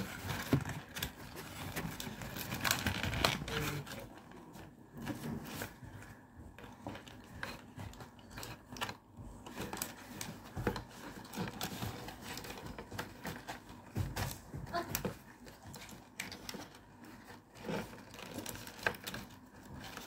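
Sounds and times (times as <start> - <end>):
handling plastic packaging: 0.0 - 20.0.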